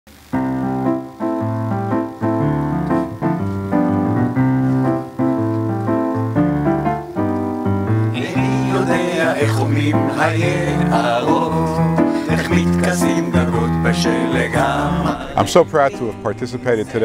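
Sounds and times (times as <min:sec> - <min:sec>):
piano melody over chords: 0:00.1 - 0:17.0.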